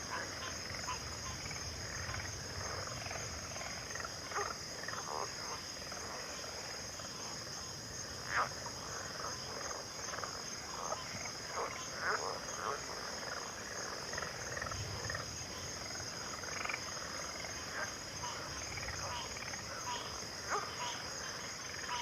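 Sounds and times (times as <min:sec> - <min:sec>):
frogs croaking: 0:00.0 - 0:22.0.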